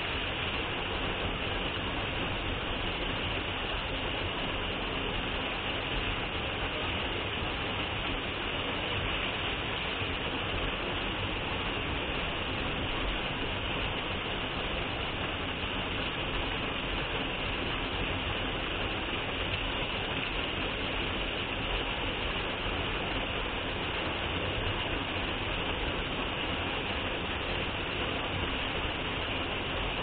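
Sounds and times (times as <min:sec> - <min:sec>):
waterfall rushing into pool: 0:00.0 - 0:30.0.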